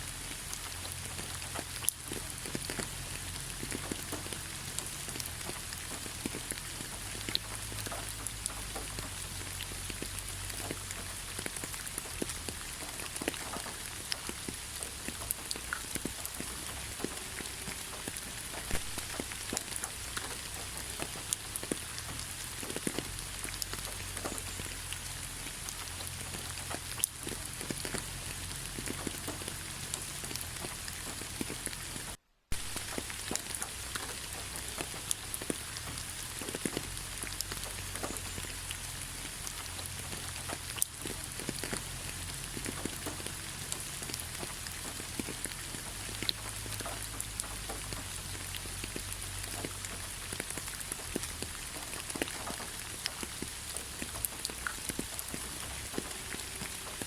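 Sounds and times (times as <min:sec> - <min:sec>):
rain falling: 0:00.0 - 0:57.0
raindrops ticking: 0:00.0 - 0:57.0.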